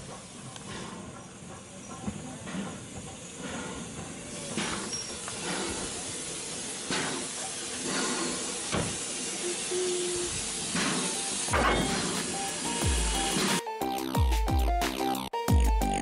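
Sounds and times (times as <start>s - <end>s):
steam locomotive hissing: 0.0s - 14.3s.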